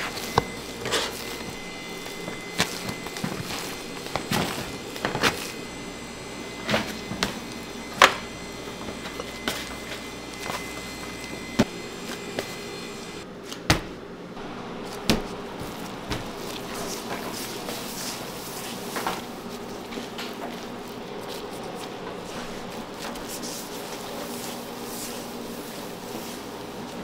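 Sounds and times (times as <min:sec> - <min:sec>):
kitchen machinery hum: 0:00.0 - 0:27.0.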